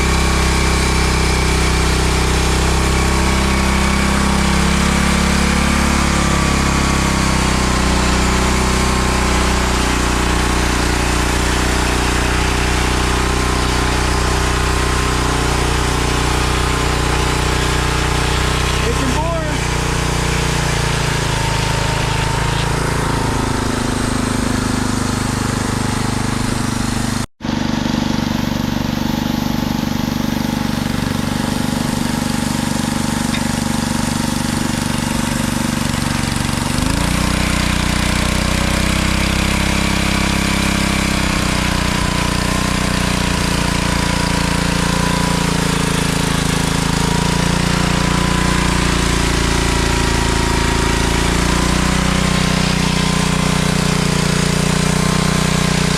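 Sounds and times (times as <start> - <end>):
sawmill motor running: 0.0 - 55.9.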